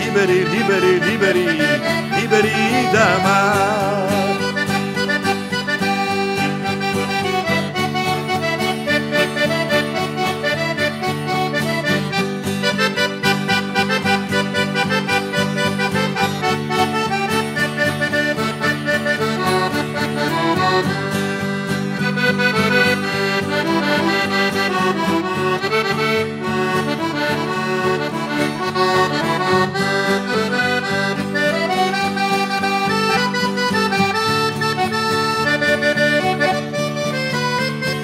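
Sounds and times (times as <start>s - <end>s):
accordion: 0.0s - 38.0s
folk band playing: 0.0s - 38.0s
strummed acoustic guitars: 0.0s - 38.0s.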